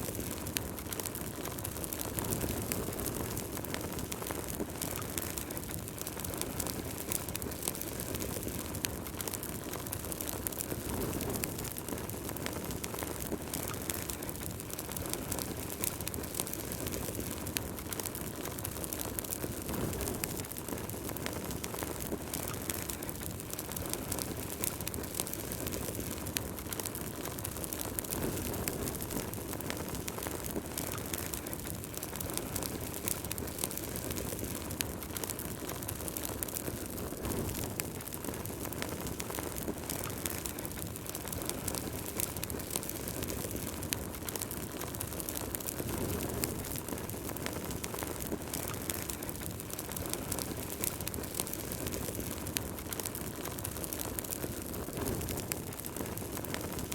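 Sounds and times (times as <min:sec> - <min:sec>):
fire crackling and popping: 0:00.0 - 0:56.9
flames rushing: 0:00.0 - 0:56.9.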